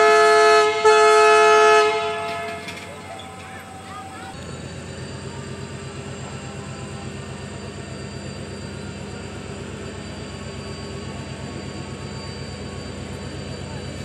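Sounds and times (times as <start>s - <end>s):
diesel locomotive engine throbbing: 0.0s - 14.0s.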